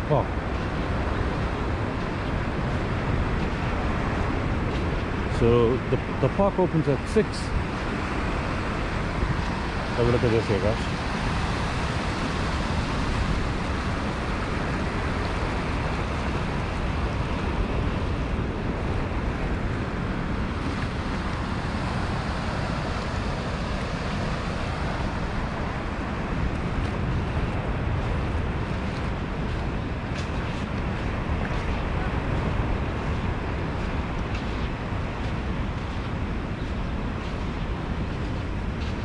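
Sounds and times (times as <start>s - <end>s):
surf and churning water: 0.0s - 39.0s
wind noise on microphone: 0.0s - 39.0s.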